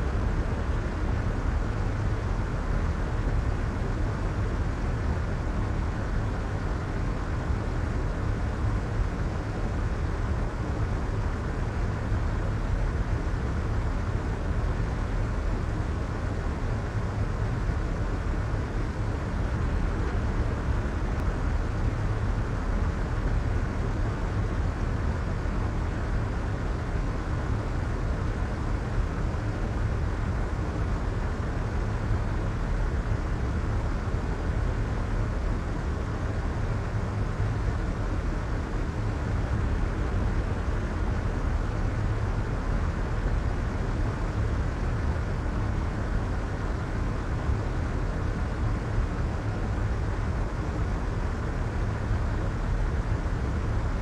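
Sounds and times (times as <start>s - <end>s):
soft low rumbling white noise: 0.0s - 54.0s.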